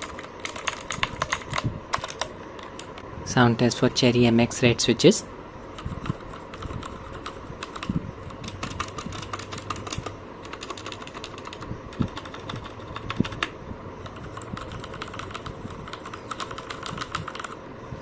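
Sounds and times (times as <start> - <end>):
mechanical keyboard typing: 0.0 - 3.0, 5.7 - 17.6.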